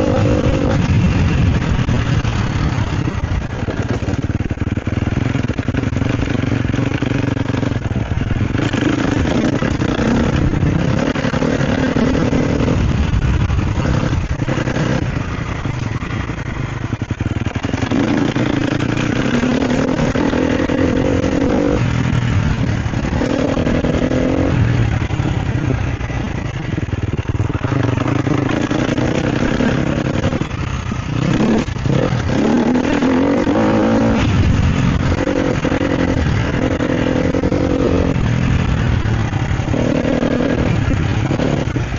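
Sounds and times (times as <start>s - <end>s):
dirt bike engine revving: 0.0s - 41.9s
knocks and rattles from bike: 0.0s - 41.9s.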